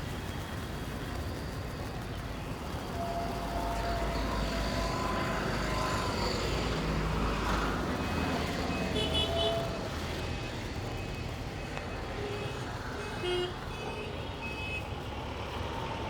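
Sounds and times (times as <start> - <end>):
vehicle engines running: 0.0 - 13.1.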